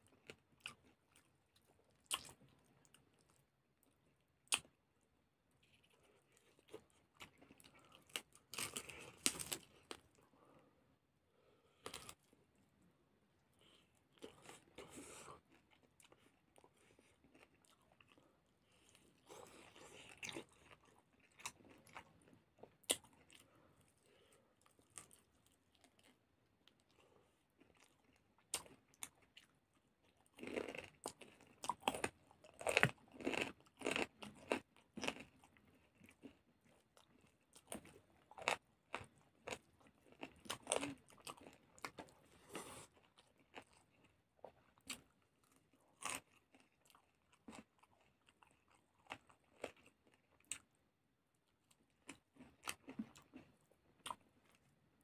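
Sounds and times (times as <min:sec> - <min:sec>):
person chewing food: 0:00.0 - 0:10.6, 0:11.4 - 0:54.8.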